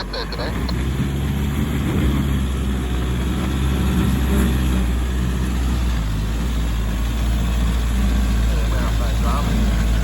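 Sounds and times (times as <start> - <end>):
vehicle engine idling low: 0.0 - 4.0, 4.9 - 10.0.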